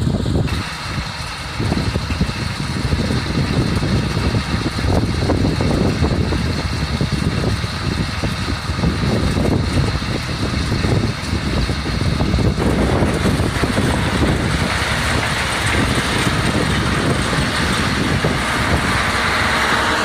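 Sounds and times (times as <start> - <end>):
tractor and harvester running: 0.0 - 20.0.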